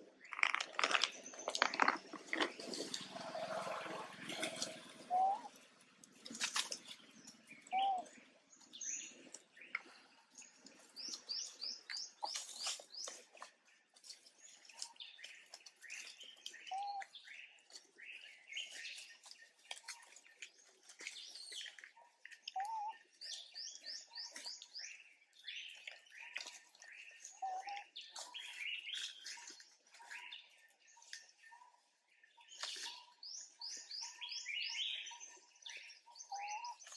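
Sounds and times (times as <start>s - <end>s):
songbirds chirping and trilling: 0.0s - 36.9s.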